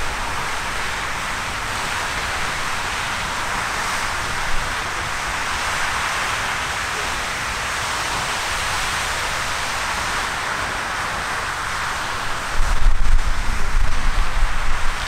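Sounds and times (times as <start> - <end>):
geyser water jet hissing: 0.0 - 15.0.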